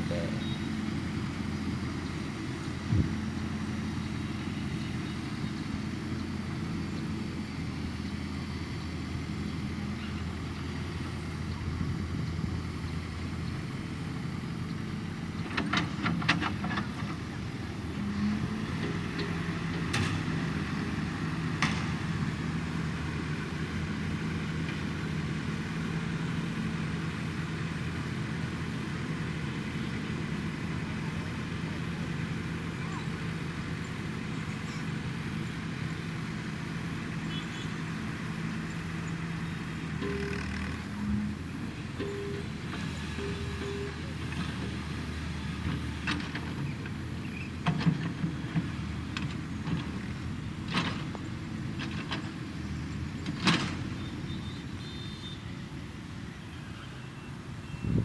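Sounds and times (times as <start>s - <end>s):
diesel engine humming: 0.0s - 58.0s.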